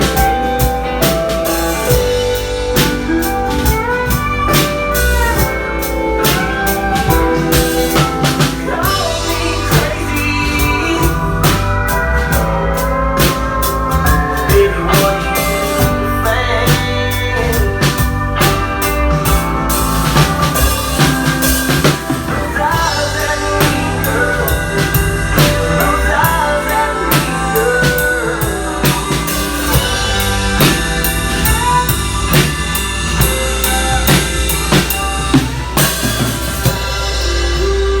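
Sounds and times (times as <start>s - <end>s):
bass line: 0.0s - 38.0s
drum kit beat: 0.0s - 38.0s
sliding lead melody: 0.0s - 38.0s.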